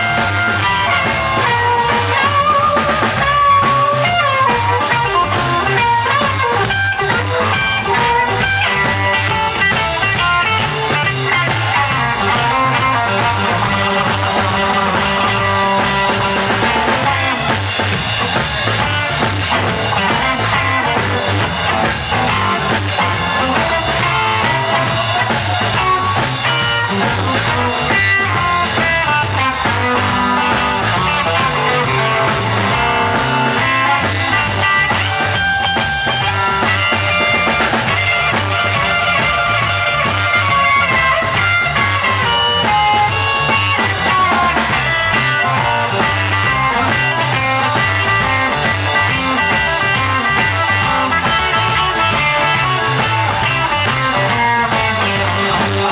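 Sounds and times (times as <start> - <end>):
drum kit groove: 0.0 - 55.9
electric guitars: 0.0 - 55.9.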